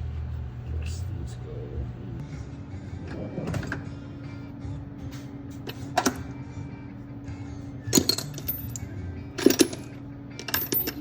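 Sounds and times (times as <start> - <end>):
faint radio music: 0.0 - 11.0
low hum: 0.0 - 11.0.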